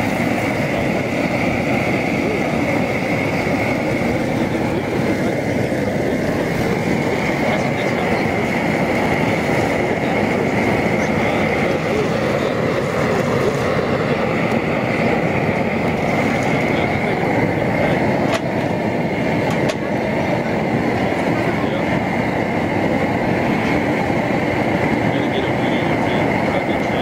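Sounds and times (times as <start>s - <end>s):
gas burner roaring: 0.0s - 27.0s.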